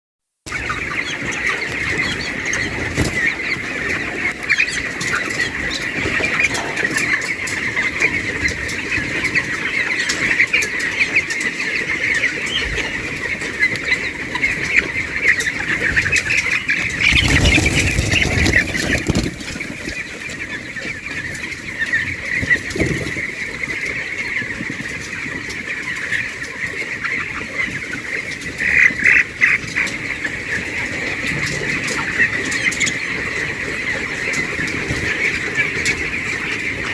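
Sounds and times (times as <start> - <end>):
chicks peeping: 0.5 - 36.9.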